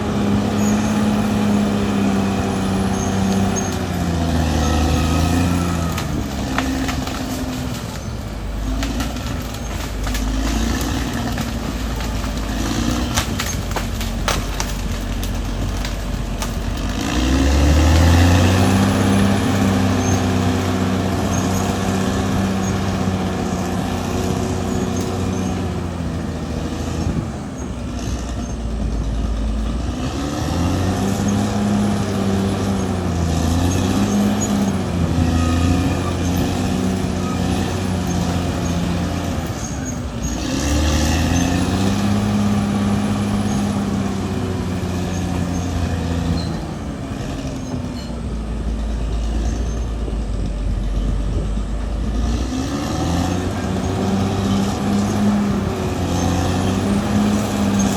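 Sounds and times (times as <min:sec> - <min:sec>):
bulldozer diesel engine: 0:00.0 - 0:57.9.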